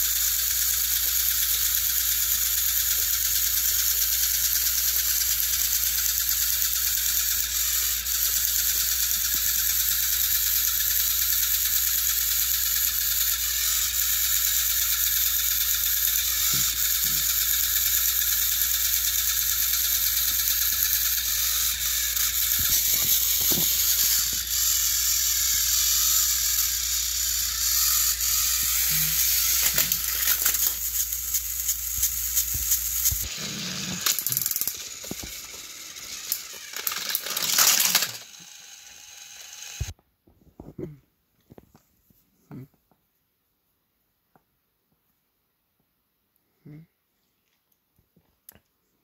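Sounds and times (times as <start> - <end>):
toy train motor whirring: 0.0 - 40.0.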